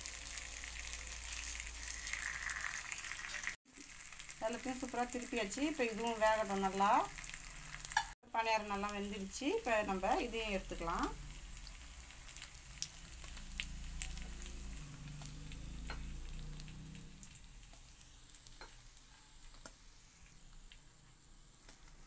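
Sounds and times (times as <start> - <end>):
hot oil sizzling: 0.0 - 22.0.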